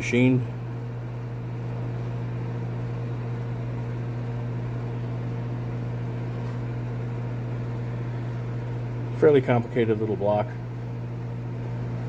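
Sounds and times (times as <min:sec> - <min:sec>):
low mechanical hum with hiss: 0:00.0 - 0:12.0.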